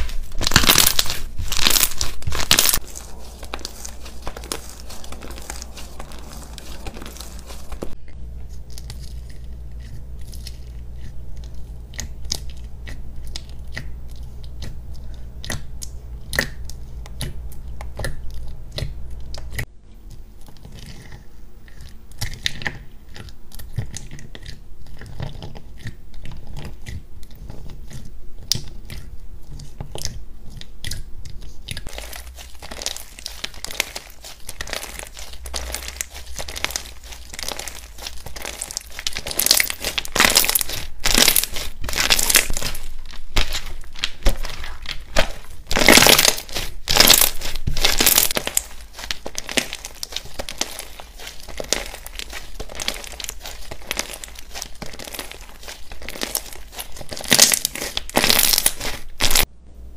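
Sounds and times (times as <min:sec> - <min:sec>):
slime crackling and popping: 0:00.0 - 0:19.7, 0:20.4 - 0:59.5.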